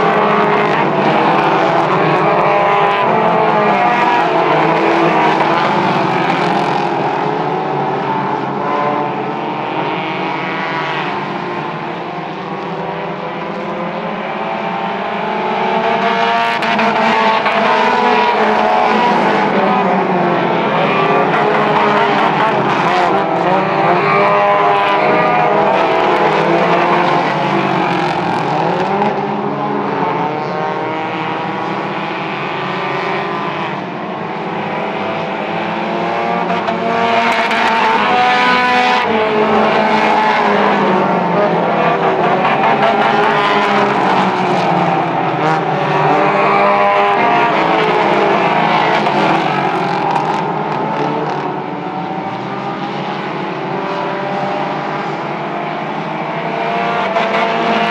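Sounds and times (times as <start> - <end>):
race car engines revving: 0.0 - 57.9.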